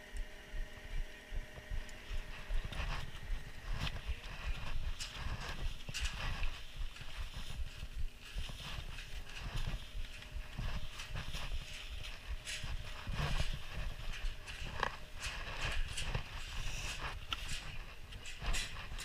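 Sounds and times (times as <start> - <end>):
ski boot footsteps on snow: 1.4 - 19.0.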